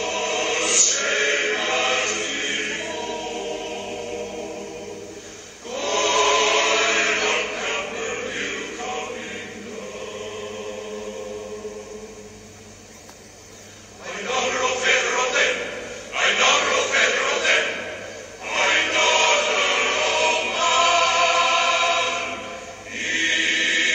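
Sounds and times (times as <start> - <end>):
choir singing held chords: 0.0 - 12.9, 13.6 - 23.9.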